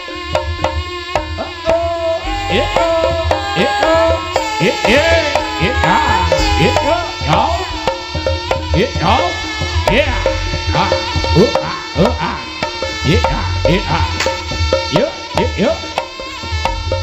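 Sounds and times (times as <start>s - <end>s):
hand drums with pitch bends: 0.0s - 17.0s
sustained melody line: 0.0s - 17.0s.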